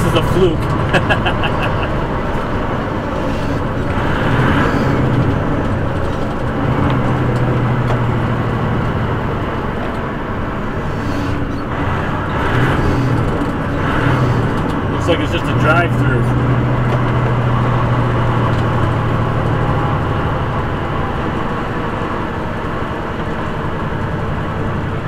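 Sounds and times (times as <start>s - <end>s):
truck diesel engine running: 0.0s - 25.0s
tyre and road noise: 0.0s - 25.0s.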